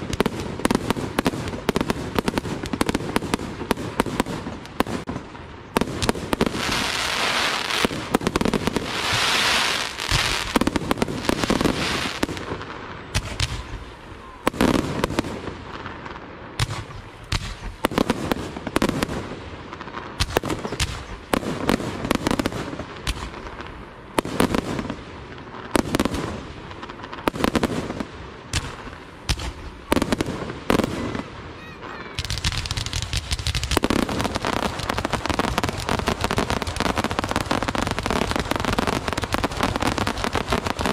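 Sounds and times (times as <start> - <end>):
firework bangs: 0.0 - 40.9
firework crackling: 0.0 - 40.9.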